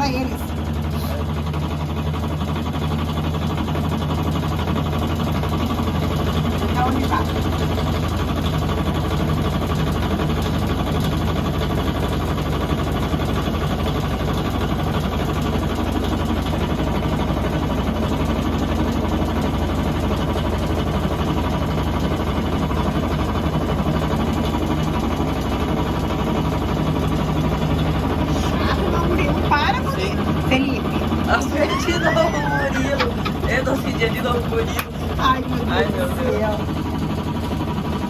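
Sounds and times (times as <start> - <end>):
washing machine humming: 0.0 - 38.0.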